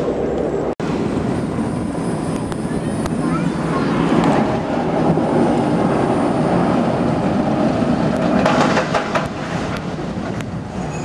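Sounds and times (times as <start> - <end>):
wind rushing aboard aerial tram: 0.0 - 11.0.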